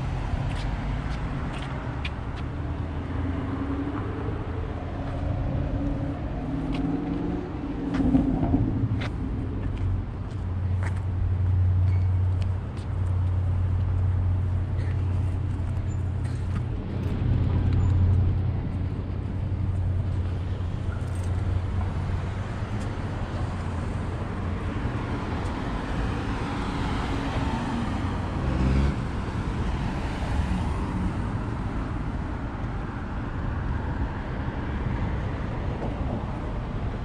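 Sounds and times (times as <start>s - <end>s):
cars driving by: 0.0s - 37.0s.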